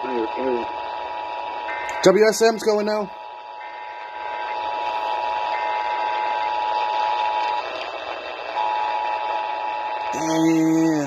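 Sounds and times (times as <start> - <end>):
radio static hiss: 0.0 - 11.0
two-tone alarm: 0.0 - 11.0.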